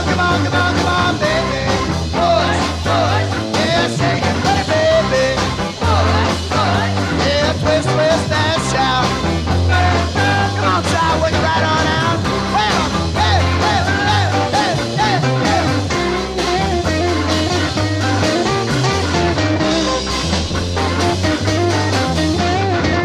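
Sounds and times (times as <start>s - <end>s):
bass guitar: 0.0s - 23.0s
bending lead melody: 0.0s - 23.0s
electric guitars: 0.0s - 23.0s
steady drum beat: 0.0s - 23.0s.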